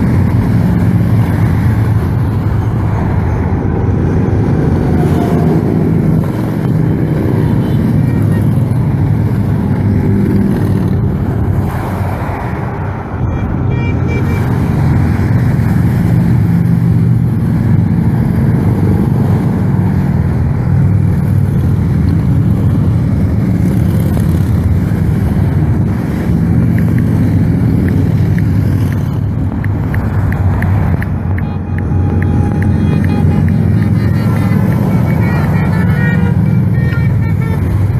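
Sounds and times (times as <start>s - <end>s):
motorcycles riding past: 0.0s - 13.1s, 14.2s - 37.9s.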